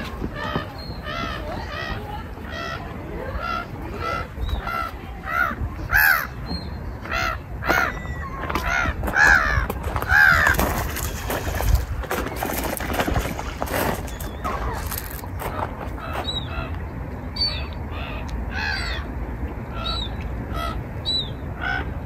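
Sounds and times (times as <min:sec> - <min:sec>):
water birds harsh calls: 0:00.0 - 0:16.8, 0:17.4 - 0:22.0
outdoor noise: 0:00.0 - 0:22.0.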